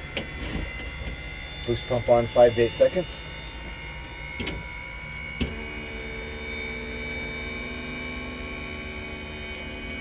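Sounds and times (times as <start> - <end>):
fuel pump humming: 0.0 - 10.0.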